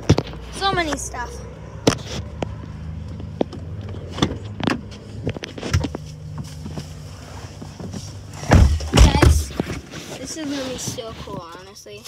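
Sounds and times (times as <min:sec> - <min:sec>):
handling knocks and rustles: 0:00.0 - 0:01.0, 0:01.8 - 0:11.7
car engine humming: 0:00.0 - 0:12.0.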